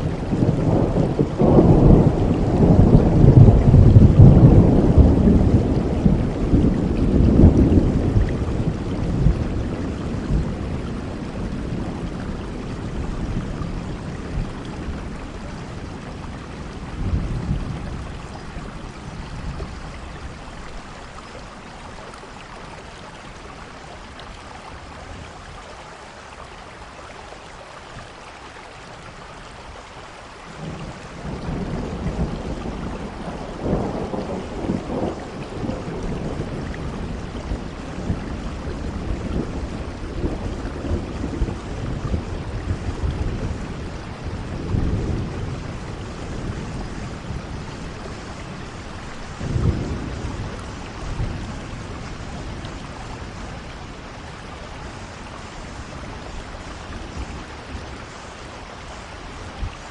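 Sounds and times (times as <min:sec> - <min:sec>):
rainfall hiss: 0:00.0 - 0:59.9.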